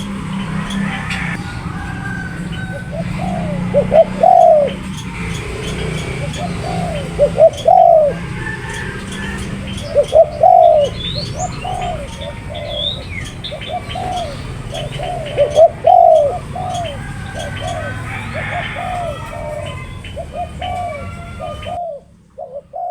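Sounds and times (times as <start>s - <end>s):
dove cooing: 0.0s - 22.9s
small birds chirping: 0.0s - 22.9s.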